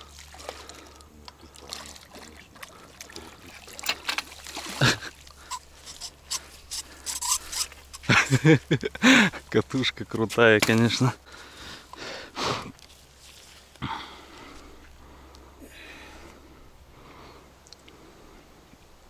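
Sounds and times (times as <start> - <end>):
water trickling and splashing: 0.0 - 15.3.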